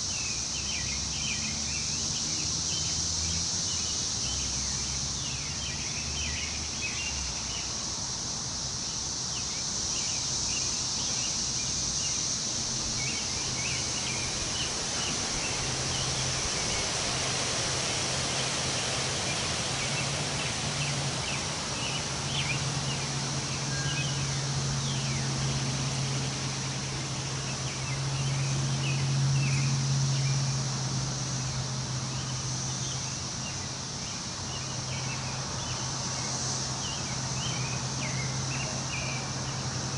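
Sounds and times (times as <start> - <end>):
high insect drone: 0.0 - 39.9
wind rustling leaves: 0.0 - 39.9.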